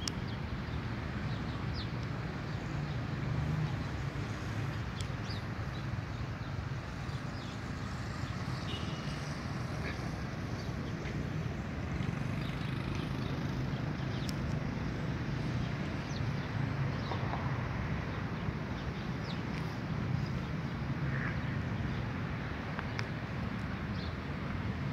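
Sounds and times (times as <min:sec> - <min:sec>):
street traffic rumble: 0:00.0 - 0:24.9.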